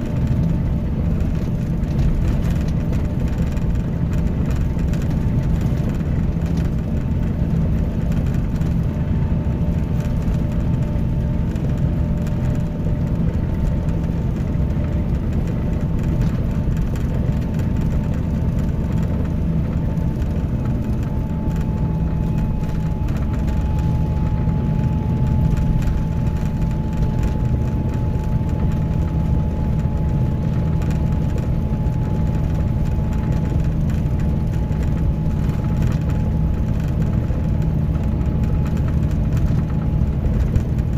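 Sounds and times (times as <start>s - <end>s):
coach engine running: 0.0s - 40.9s.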